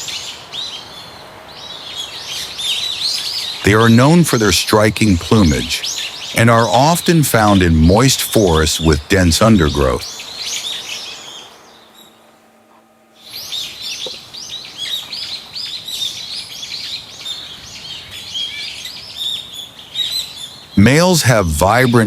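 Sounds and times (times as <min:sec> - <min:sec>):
faint background hiss: 0:00.0 - 0:22.0
small birds chirping: 0:00.0 - 0:22.0.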